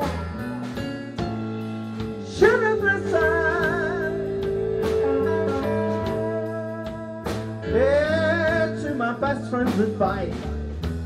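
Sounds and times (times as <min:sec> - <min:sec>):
electric guitar lead with vibrato: 0:00.0 - 0:09.2
keyboard: 0:00.0 - 0:10.3
drum kit: 0:00.0 - 0:11.0.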